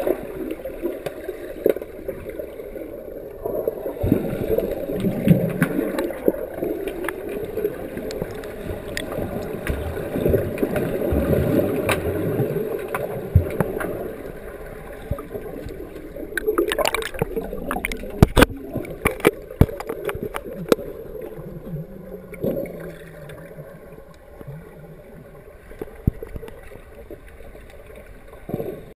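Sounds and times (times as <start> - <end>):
underwater rushing and bubbling: 0.0 - 29.0.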